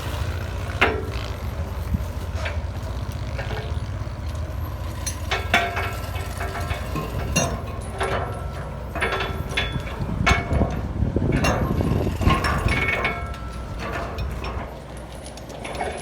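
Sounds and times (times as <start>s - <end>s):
heavy machinery engine rumbling: 0.0s - 16.0s
metallic clanks and knocks: 0.3s - 16.0s.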